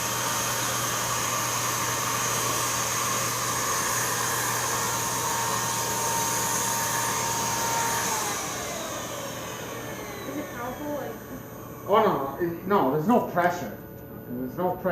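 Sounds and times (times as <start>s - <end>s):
spray gun motor whining: 0.0s - 13.2s.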